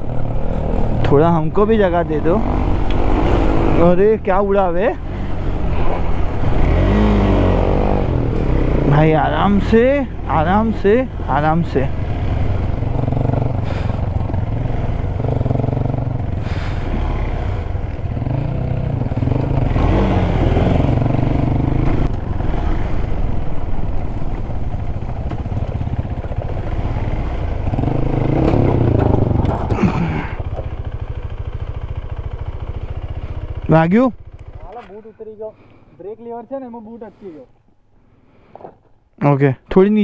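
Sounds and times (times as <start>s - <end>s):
motorcycle engine revving and idling: 0.0s - 35.4s.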